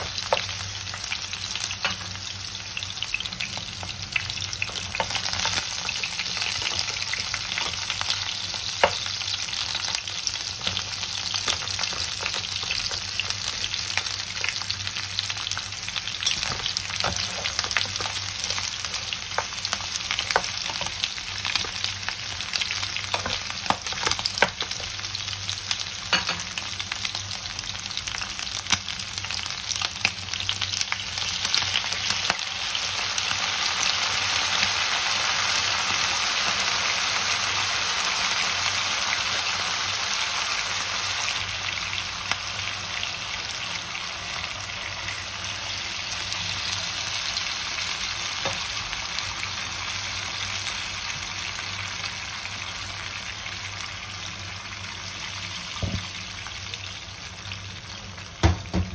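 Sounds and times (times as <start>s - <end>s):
meat sizzling in a frying pan: 0.0s - 58.9s.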